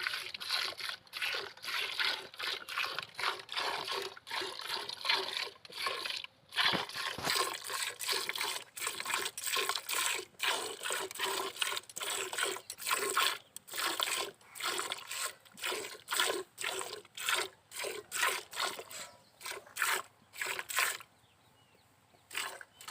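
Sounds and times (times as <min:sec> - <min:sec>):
milk squirting from hand milking: 0:00.0 - 0:21.1, 0:22.3 - 0:22.9.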